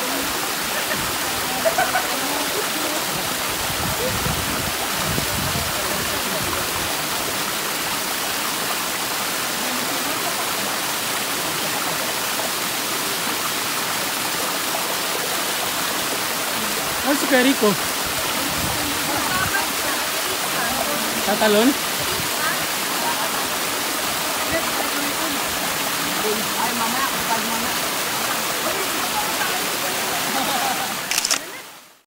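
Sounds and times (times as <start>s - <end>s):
waterfall pouring into pool: 0.0s - 32.0s.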